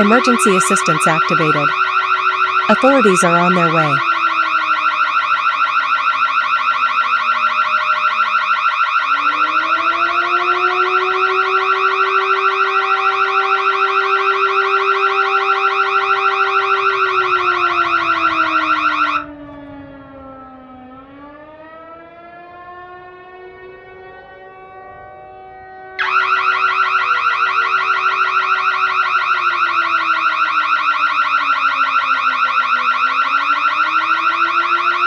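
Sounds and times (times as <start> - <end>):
fast-warbling alarm tone: 0.0 - 19.2, 26.0 - 35.0
siren wail: 0.0 - 35.0.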